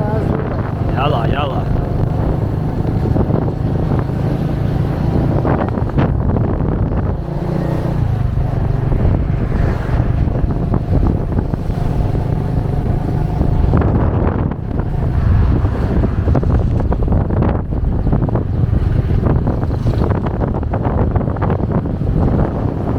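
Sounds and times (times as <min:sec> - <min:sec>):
moped engine running: 0:00.0 - 0:22.9
wind buffeting microphone: 0:00.0 - 0:22.9.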